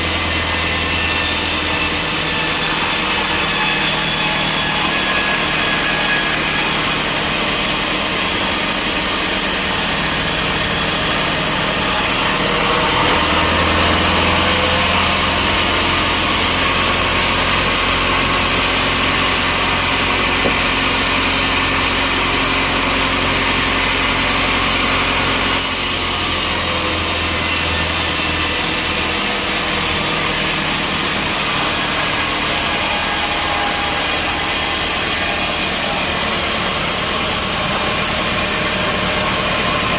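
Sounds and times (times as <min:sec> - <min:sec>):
sawmill engine and saw running: 0:00.0 - 0:39.9.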